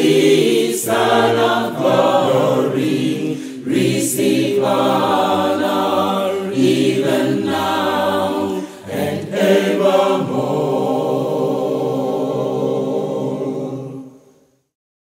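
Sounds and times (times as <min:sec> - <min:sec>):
voices singing together: 0:00.0 - 0:14.6.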